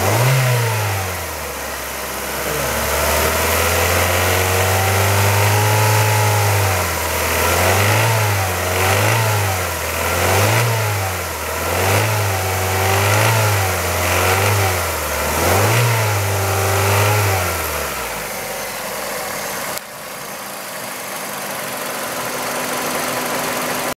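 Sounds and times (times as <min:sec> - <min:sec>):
car engine revving in blips: 0:00.0 - 0:19.9.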